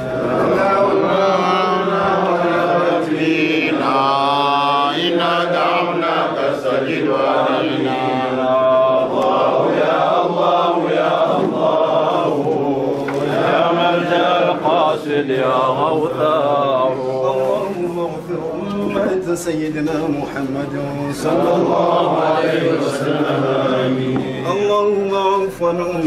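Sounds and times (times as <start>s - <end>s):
men chanting devotional chant: 0.0s - 26.0s.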